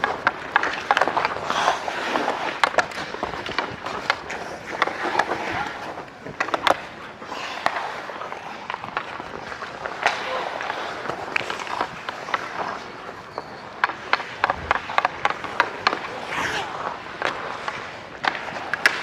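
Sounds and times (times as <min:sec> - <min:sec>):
skate blades scraping on ice: 0:00.0 - 0:19.0.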